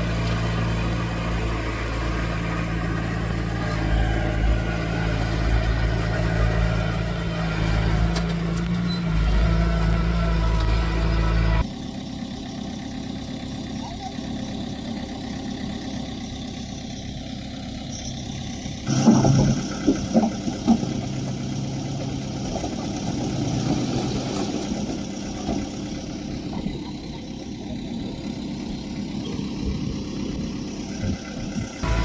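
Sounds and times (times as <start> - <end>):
heavy diesel machinery engine: 0.0 - 32.0.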